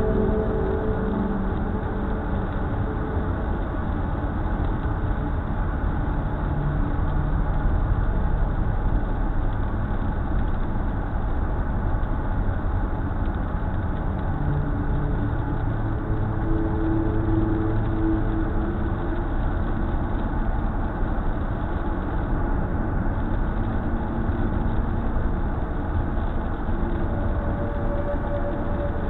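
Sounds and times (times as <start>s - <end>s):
car road noise on wet road: 0.0s - 29.0s.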